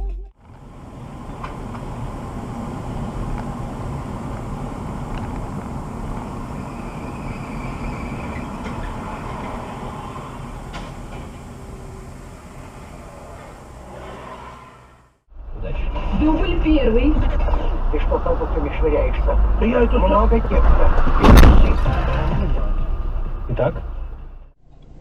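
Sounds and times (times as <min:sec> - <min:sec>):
road vehicle rumble: 0:00.0 - 0:25.0.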